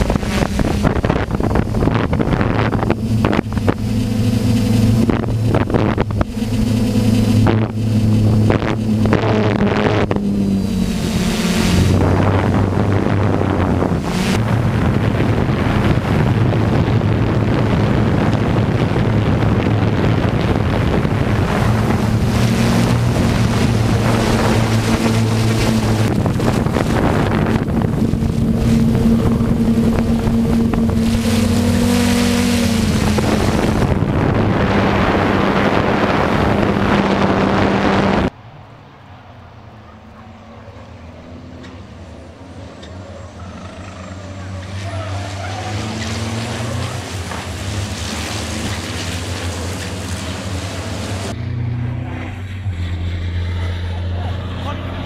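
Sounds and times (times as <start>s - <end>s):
racing truck diesel engines: 0.0s - 55.0s.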